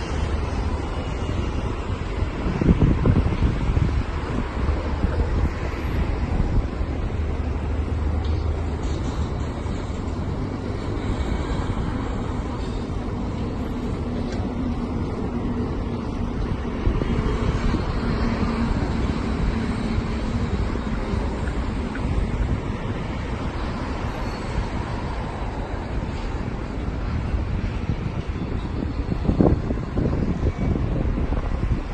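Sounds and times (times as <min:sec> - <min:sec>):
low rumble of vehicle traffic: 0:00.0 - 0:31.9
wind buffeting microphone: 0:00.0 - 0:31.9.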